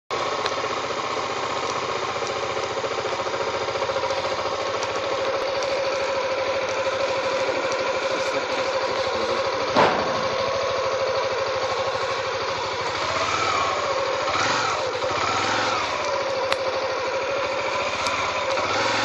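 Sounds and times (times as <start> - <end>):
engine running steadily: 0.1 - 19.0.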